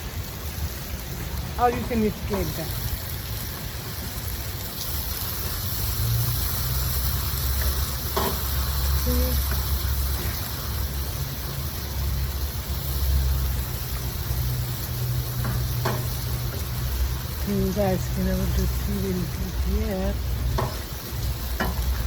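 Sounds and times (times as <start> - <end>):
food sizzling in a pan: 0.0 - 22.0
steady low rumble: 0.0 - 22.0.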